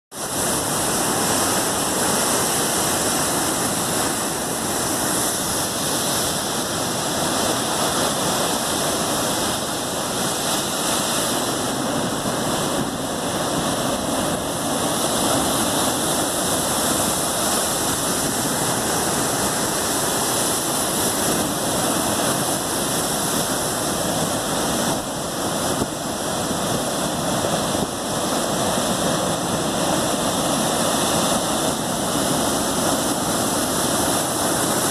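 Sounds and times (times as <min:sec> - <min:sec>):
heavy surf breaking on rocks: 0:00.2 - 0:34.9.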